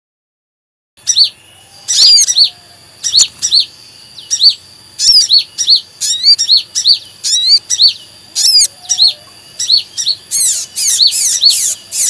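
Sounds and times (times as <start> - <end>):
sunbirds chirping: 1.0 - 12.0.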